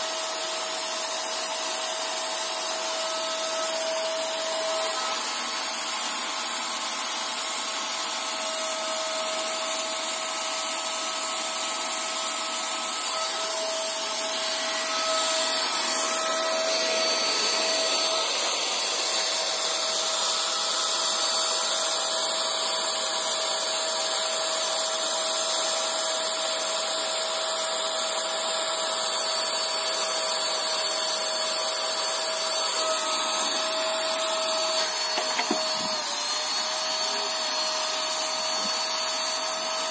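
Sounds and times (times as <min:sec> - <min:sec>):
paint sprayer turbine whining: 0:00.0 - 0:39.9.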